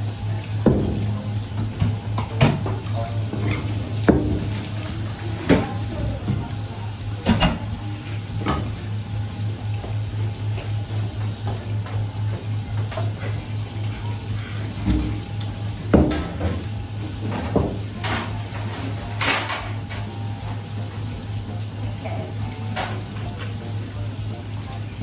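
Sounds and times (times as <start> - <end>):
tap water splashing: 0.4 - 7.8, 8.4 - 24.9.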